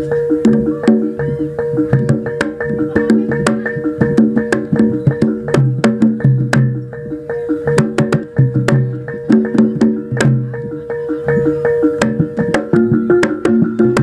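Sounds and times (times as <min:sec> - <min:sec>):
tuned metal percussion: 0:00.0 - 0:14.0.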